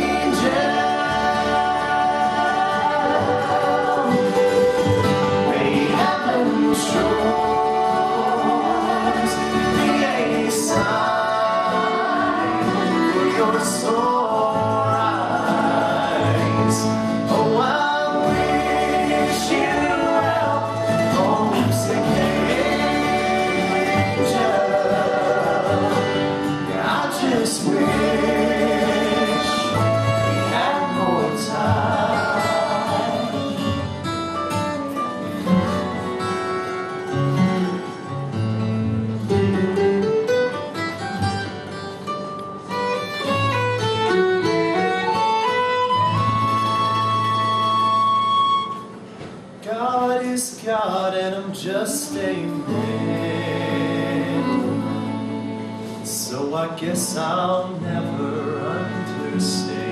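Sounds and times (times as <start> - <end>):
fiddle: 0.0 - 38.0, 39.0 - 49.3, 52.0 - 59.9
picked notes: 0.0 - 49.7
acoustic guitar: 0.0 - 59.9.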